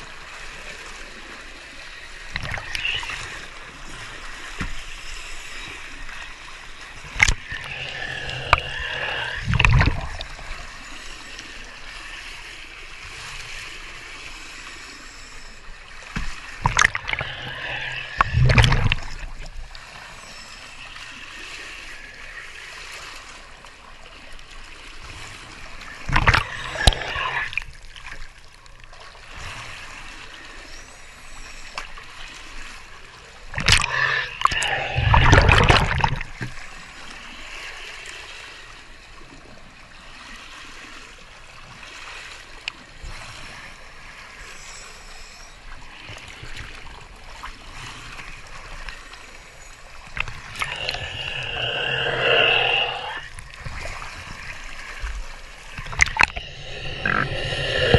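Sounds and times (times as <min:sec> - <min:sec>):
water splashing and churning: 0:00.0 - 0:57.9.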